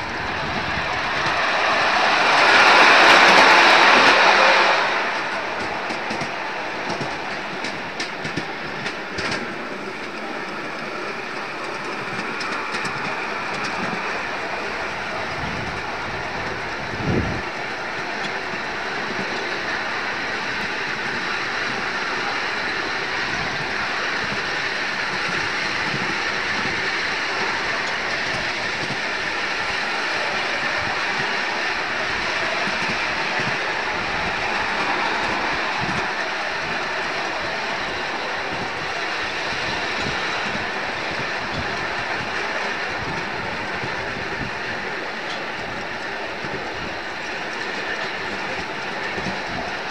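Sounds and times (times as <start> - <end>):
train wheels clattering on rail: 0.0 - 49.9.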